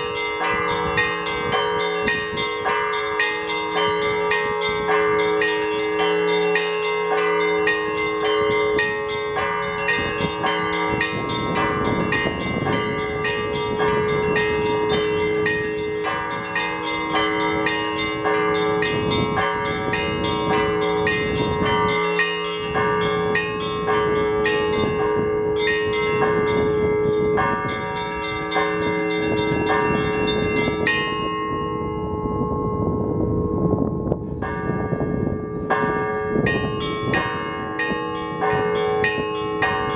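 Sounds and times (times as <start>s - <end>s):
wind gusts on microphone: 0.0s - 2.8s, 7.5s - 39.9s
small high bells ringing fast: 0.0s - 33.8s, 34.4s - 39.9s
large bells ringing: 0.0s - 39.9s.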